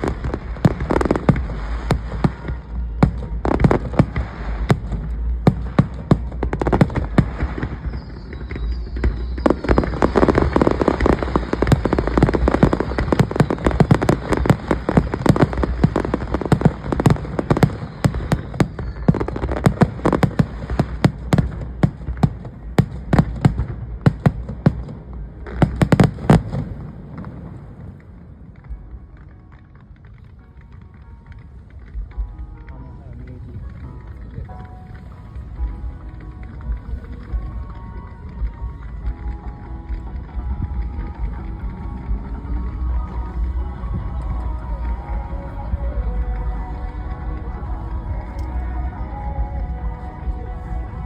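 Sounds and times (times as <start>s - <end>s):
fireworks bursts and bangs: 0.0s - 51.0s.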